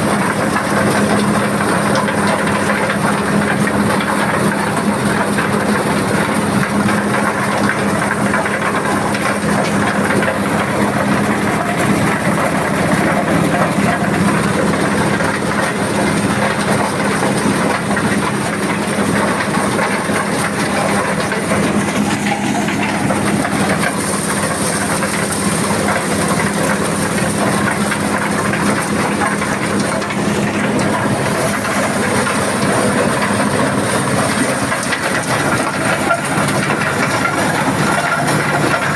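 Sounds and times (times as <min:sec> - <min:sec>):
corn sheller rattling: 0:00.0 - 0:38.9
diesel engine running: 0:00.0 - 0:38.9.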